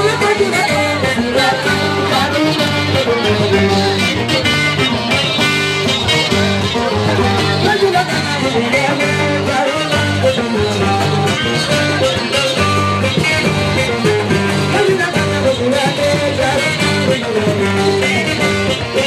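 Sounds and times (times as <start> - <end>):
person singing: 0.0 - 5.2, 6.0 - 19.0
plucked guitar: 0.0 - 19.0
steady bass: 0.0 - 19.0.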